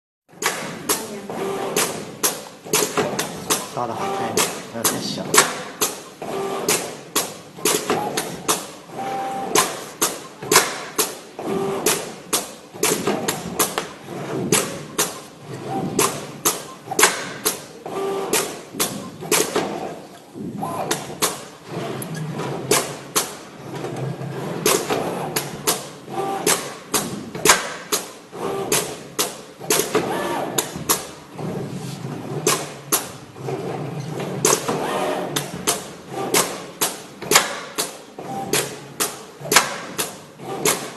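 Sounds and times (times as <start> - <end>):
cutting plotter sharp knocks: 0.3 - 20.0, 22.4 - 23.5, 24.4 - 31.5, 32.3 - 33.2, 34.3 - 40.9
continuous machine working noise: 0.3 - 40.9.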